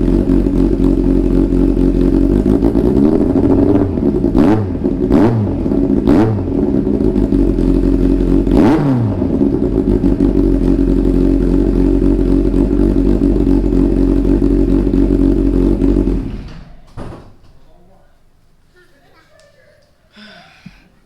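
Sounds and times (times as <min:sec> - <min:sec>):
engine throttle blips: 0:00.0 - 0:16.9
motorcycle engine idling: 0:00.0 - 0:16.9.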